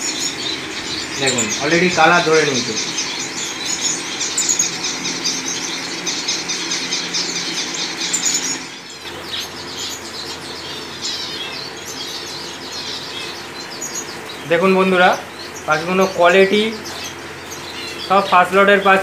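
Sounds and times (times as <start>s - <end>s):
finches chirping and twittering: 0.0s - 19.0s.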